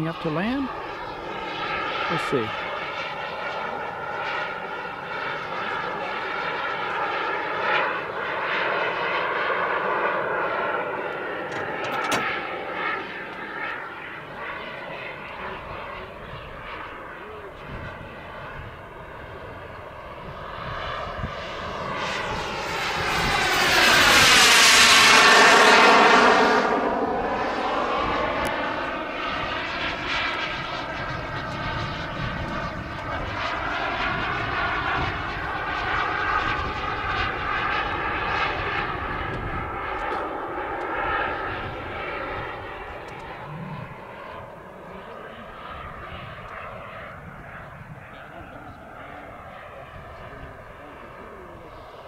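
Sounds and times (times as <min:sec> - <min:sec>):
jet turbine engine whining: 0:00.0 - 0:52.0.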